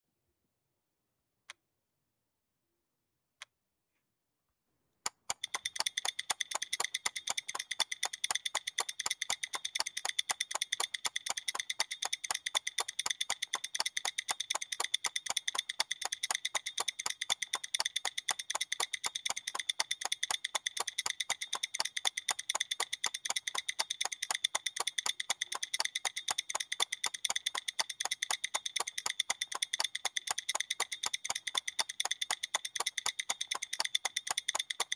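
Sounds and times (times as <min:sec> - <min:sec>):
faint clicks: 0:05.0 - 0:34.9
rapid electronic ticking: 0:05.2 - 0:34.9.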